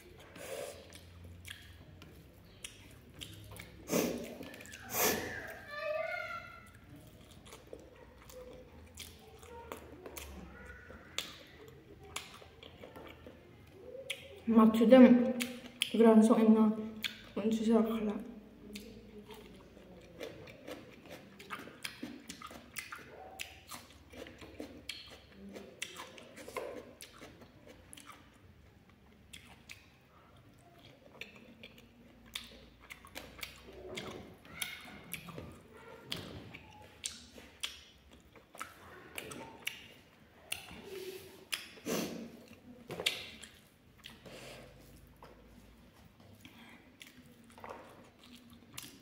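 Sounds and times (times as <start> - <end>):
mouth clicks and smacks: 0.0 - 5.8, 6.6 - 14.5, 15.3 - 16.0, 17.0 - 17.4, 18.6 - 49.0
person chewing: 0.0 - 5.8, 6.6 - 14.4, 15.3 - 16.0, 17.0 - 17.4, 18.6 - 49.0.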